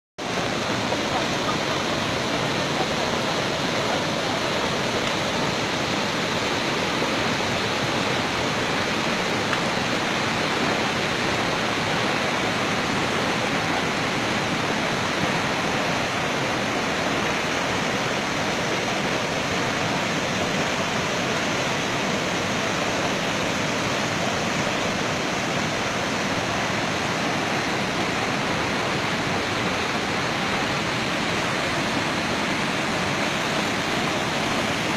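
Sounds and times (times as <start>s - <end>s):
river rushing roar: 0.2s - 34.9s.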